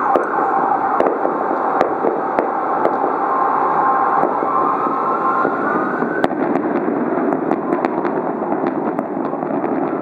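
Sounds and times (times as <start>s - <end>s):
background noise: 0.0s - 10.0s
fireworks bang: 0.0s - 10.0s
fireworks crackling pops: 0.0s - 10.0s.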